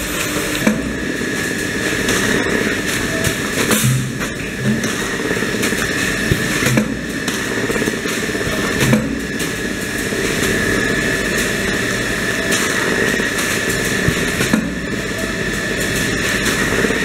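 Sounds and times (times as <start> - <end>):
conveyor machinery running: 0.0 - 17.0
gear motor high whine: 0.0 - 17.0.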